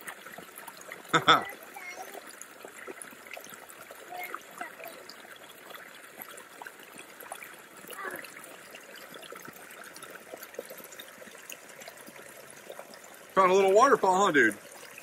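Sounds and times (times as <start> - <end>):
creek trickling: 0.0 - 15.0
small waterfall spilling: 0.0 - 15.0.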